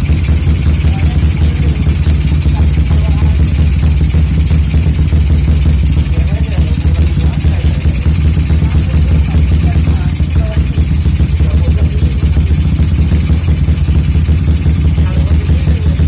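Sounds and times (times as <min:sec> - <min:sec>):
motorcycle engine idling roughly: 0:00.0 - 0:16.0.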